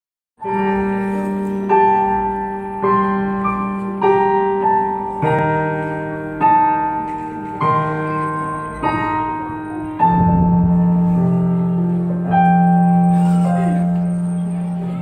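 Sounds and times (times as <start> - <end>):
slow keyboard chords: 0.4 - 15.0.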